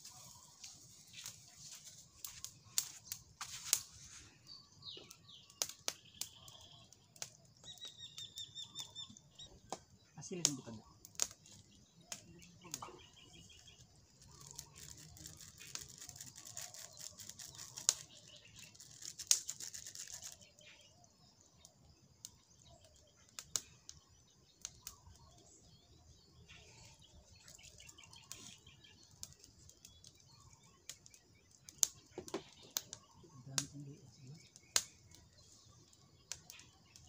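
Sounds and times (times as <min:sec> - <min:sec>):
fire popping: 0:00.0 - 0:37.0
twig fire crackling: 0:00.0 - 0:37.0.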